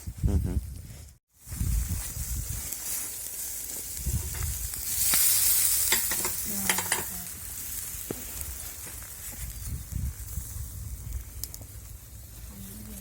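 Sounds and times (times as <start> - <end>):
meat sizzling over charcoal: 1.2 - 13.0.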